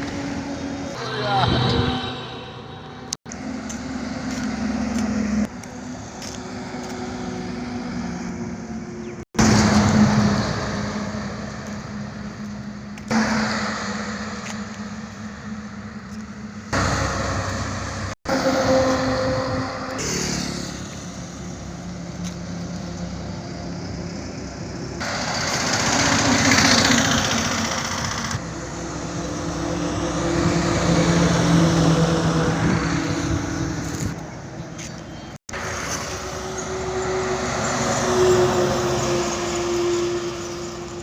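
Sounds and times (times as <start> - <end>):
highway traffic driving past: 0.0 - 41.0.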